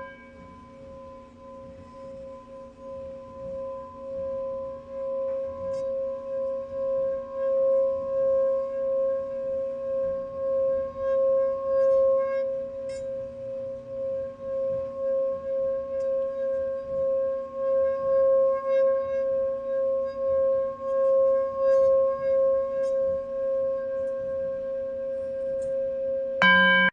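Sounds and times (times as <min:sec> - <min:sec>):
singing bowl tone: 0:00.0 - 0:26.9.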